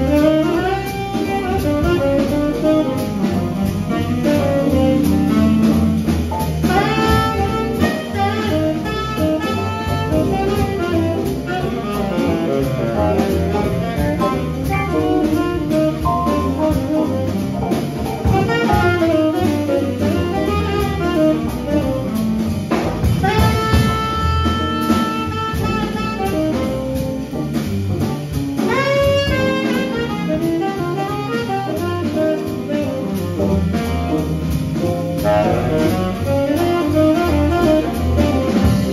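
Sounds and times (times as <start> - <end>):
saxophone: 0.0 - 27.5, 28.6 - 38.9
drum kit: 0.0 - 38.9
upright bass: 0.0 - 38.9.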